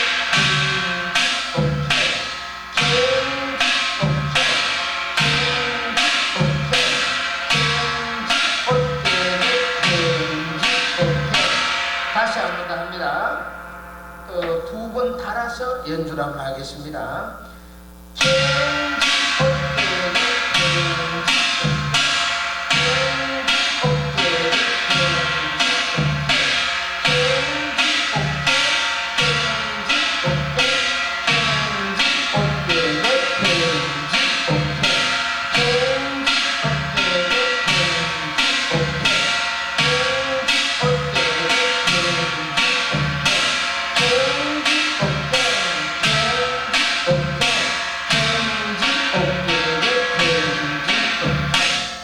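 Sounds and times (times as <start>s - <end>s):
barrel drum strikes: 0.0s - 14.9s, 17.8s - 52.0s
small brass gong ringing: 0.0s - 16.2s, 17.4s - 52.0s.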